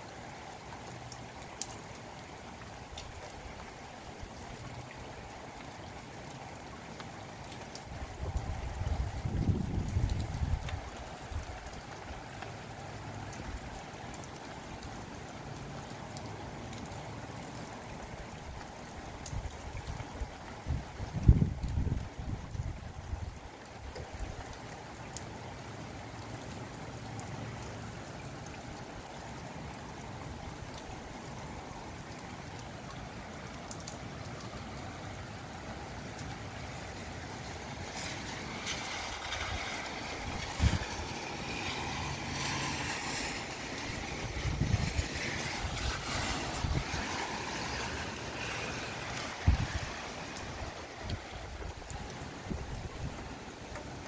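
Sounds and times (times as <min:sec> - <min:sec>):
wind and rain rushing: 0:00.0 - 0:54.0.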